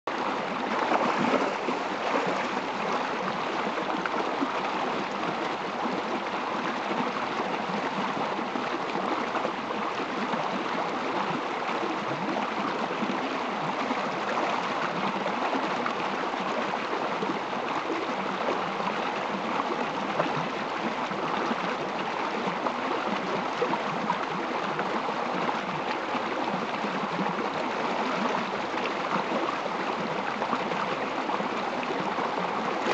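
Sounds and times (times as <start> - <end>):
creek water running over stones: 0.1 - 32.9.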